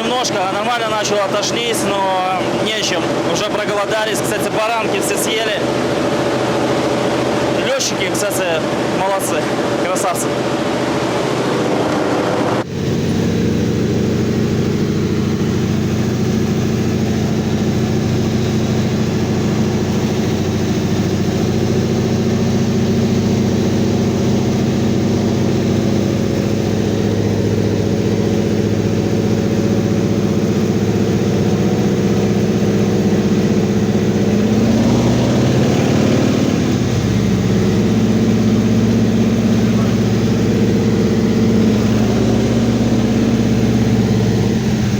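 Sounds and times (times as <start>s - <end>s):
aircraft engine droning in cabin: 0.0s - 34.8s, 36.6s - 44.9s.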